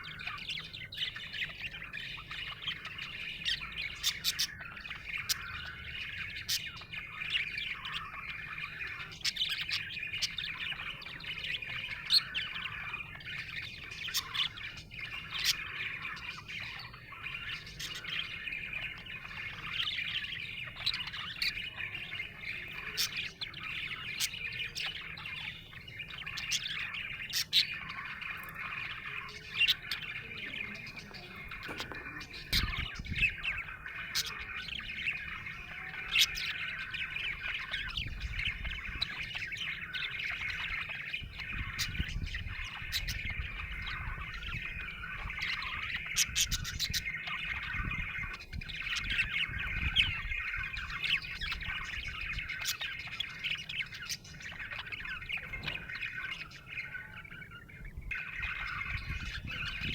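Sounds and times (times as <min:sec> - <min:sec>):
budgerigar chirping and warbling: 0:00.0 - 0:59.9.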